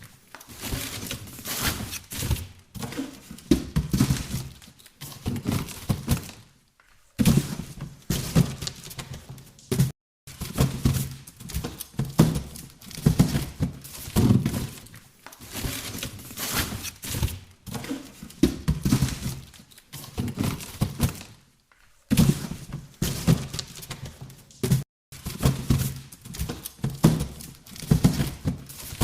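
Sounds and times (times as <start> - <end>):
boxes scraping and rustling: 0.0 - 6.5, 7.2 - 21.4, 22.1 - 29.0
boxes thunking and knocking: 0.0 - 6.5, 7.2 - 21.4, 22.1 - 29.0.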